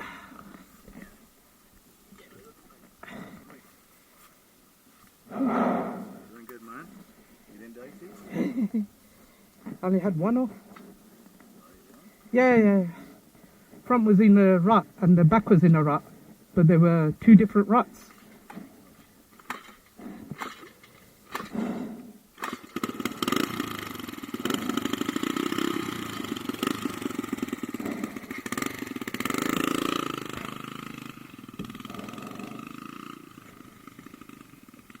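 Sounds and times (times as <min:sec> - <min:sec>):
off-road motorcycle engine revving: 0:05.3 - 0:08.9, 0:09.6 - 0:35.0.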